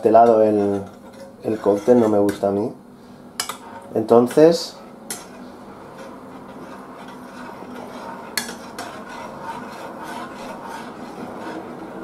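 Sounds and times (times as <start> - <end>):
spoon scraping saucepan: 0.0 - 2.6, 3.4 - 12.0.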